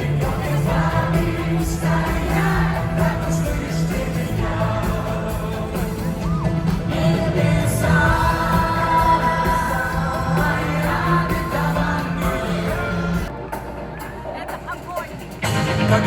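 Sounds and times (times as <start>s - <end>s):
person singing: 0.0s - 13.3s
live band playing: 0.0s - 16.0s.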